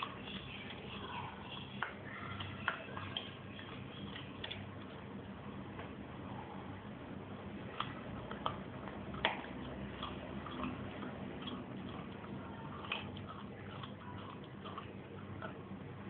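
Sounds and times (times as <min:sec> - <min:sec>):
dog chewing bone: 0:00.0 - 0:06.0, 0:07.6 - 0:16.0.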